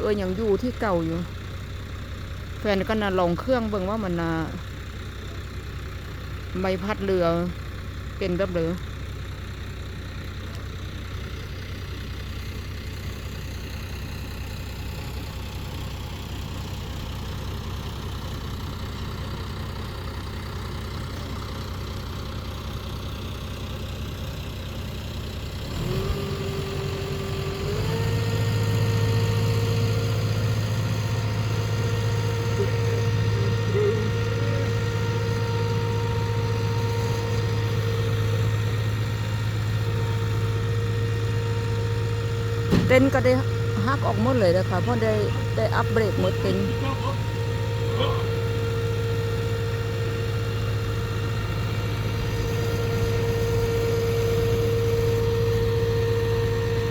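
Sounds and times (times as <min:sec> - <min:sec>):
boat engine running: 0:00.0 - 0:23.5, 0:25.7 - 0:56.9.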